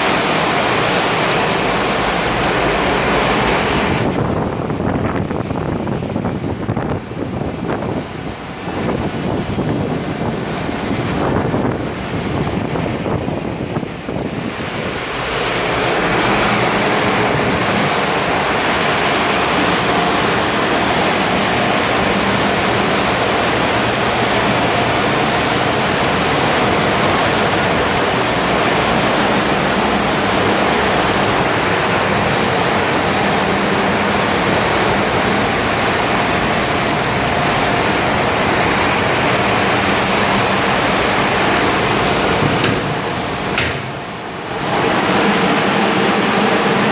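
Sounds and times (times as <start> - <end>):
engine room machinery hiss: 0.0 - 46.9.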